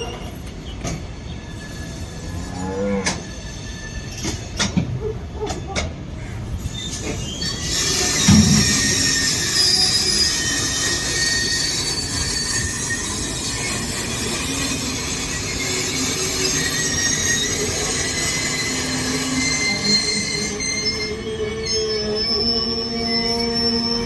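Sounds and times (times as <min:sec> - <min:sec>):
train wagons rumbling: 0:00.0 - 0:24.0
train wheels squealing: 0:00.0 - 0:24.0.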